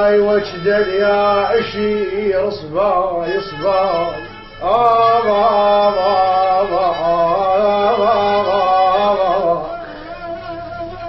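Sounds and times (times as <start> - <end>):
low sustained accompaniment: 0.0 - 11.0
man singing melismatic phrase: 0.0 - 11.0.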